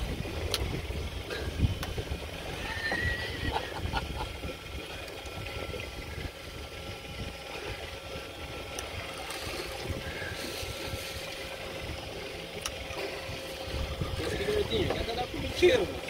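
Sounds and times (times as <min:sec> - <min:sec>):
boat engine running: 0:00.0 - 0:16.0
water washing past hull: 0:00.0 - 0:16.0
wind buffeting microphone: 0:00.0 - 0:16.0.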